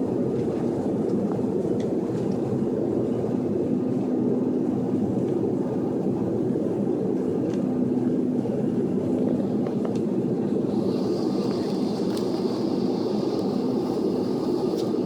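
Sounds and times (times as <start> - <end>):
airliner jet engines rumbling: 0.0 - 15.0.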